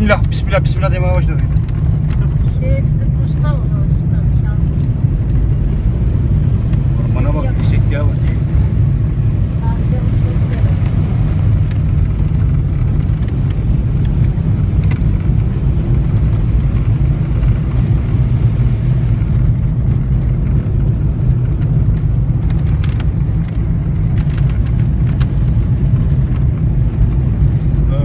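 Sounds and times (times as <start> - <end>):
car cabin road and engine rumble: 0.0 - 28.0.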